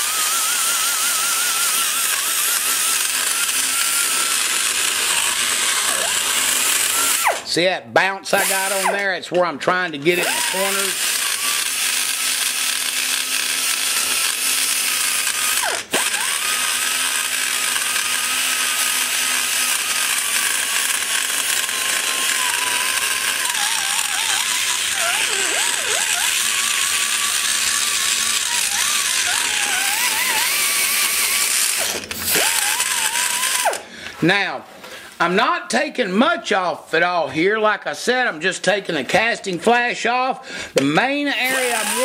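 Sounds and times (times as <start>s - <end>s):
die grinder whining: 0.0s - 7.6s, 8.3s - 34.2s, 40.5s - 42.0s.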